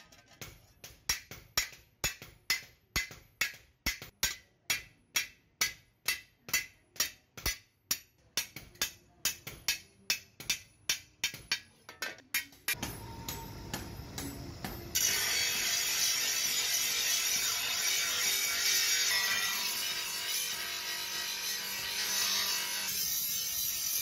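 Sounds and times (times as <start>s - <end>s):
hammer striking steel on anvil: 0.0s - 24.0s.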